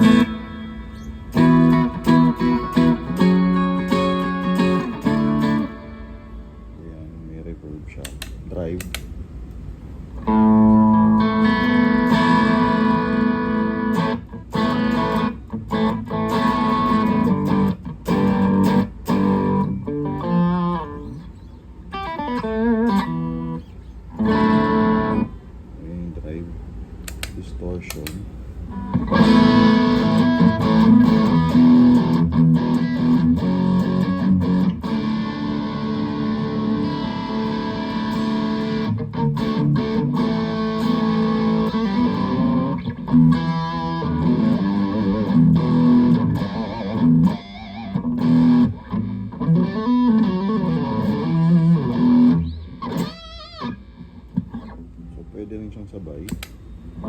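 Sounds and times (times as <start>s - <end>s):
distorted electric guitar: 0.0s - 6.8s, 10.2s - 25.4s, 28.7s - 55.0s.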